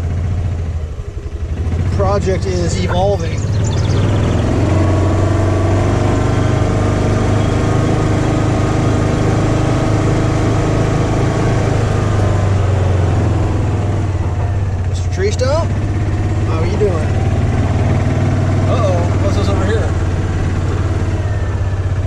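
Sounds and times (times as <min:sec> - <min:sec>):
backhoe engine running: 0:00.0 - 0:22.0.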